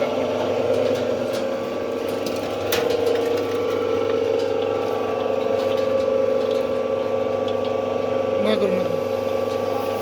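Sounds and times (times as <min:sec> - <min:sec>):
machine motor hum: 0:00.0 - 0:10.0.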